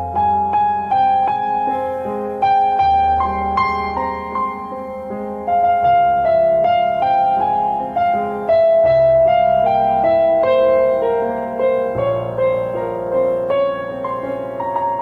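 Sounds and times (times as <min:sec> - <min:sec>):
slow calm piano music: 0:00.0 - 0:15.0.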